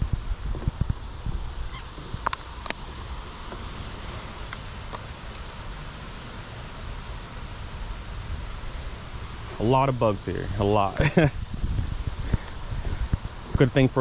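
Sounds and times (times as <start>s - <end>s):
wind rumble on microphone: 0.0s - 5.3s, 6.9s - 14.0s
insects trilling: 0.0s - 14.0s.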